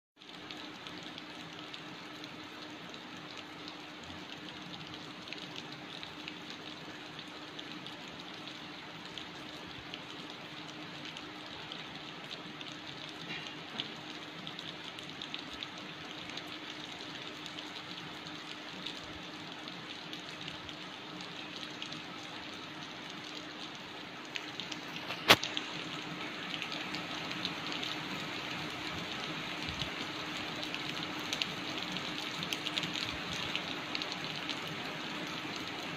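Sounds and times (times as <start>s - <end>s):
steady rain falling: 0.2s - 35.9s.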